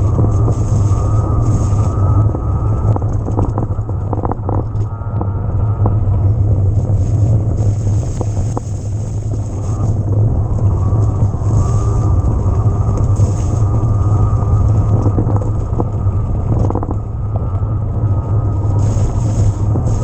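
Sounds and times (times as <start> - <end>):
electric bike rumble: 0.0 - 20.0
wind noise on camera: 0.0 - 20.0.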